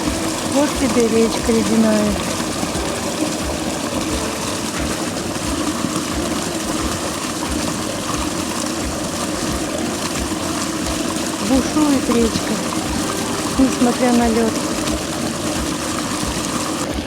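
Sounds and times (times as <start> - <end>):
river water rushing under ice: 0.0 - 17.0.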